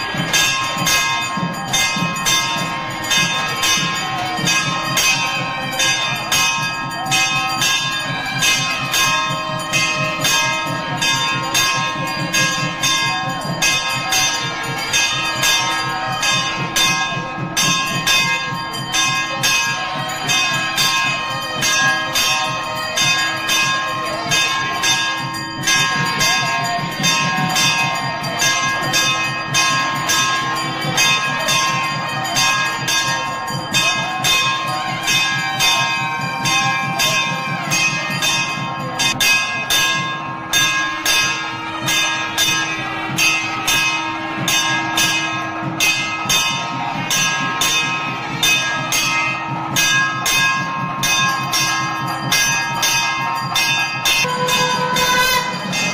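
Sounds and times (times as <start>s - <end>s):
bells struck rapidly: 0.0s - 55.9s.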